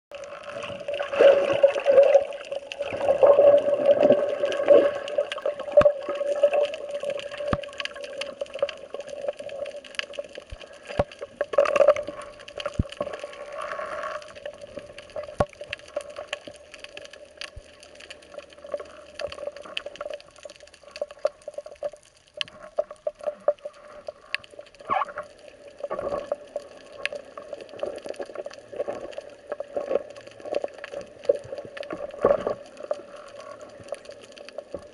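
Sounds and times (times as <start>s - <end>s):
sharp clicks underwater: 0.1s - 34.9s
underwater gurgling water: 0.1s - 34.9s.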